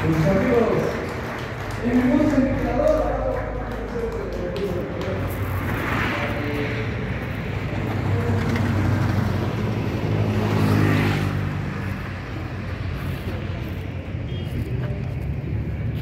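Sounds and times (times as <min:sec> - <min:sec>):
vehicles passing: 0:00.0 - 0:16.0.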